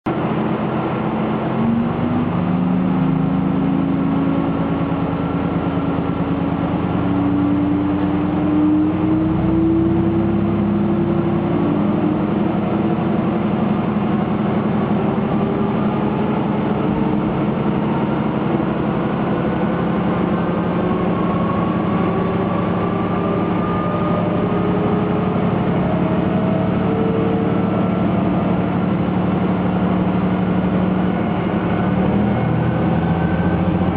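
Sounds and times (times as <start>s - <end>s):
steady low hum: 0.1s - 33.9s
train engine droning and rising: 0.1s - 33.9s
train running noise: 0.1s - 33.9s.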